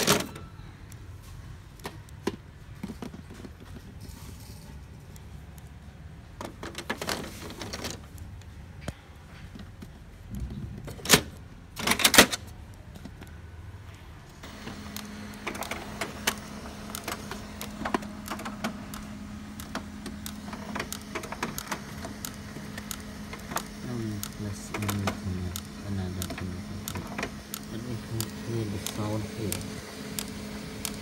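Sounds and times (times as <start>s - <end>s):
printer mechanism humming and clicking: 0.0s - 9.0s, 9.6s - 31.0s.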